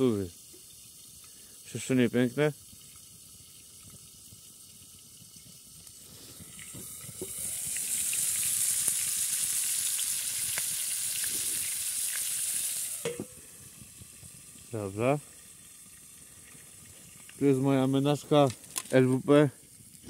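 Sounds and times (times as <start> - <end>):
chicken sizzling in a pan: 0.0 - 20.0.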